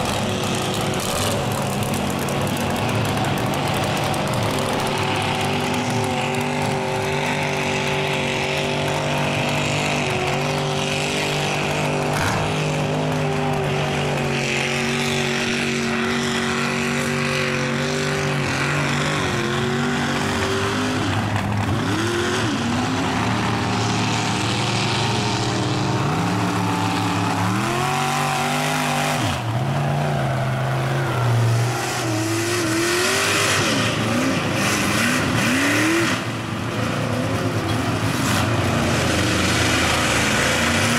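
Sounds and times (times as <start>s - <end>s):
truck engines revving: 0.0s - 40.9s.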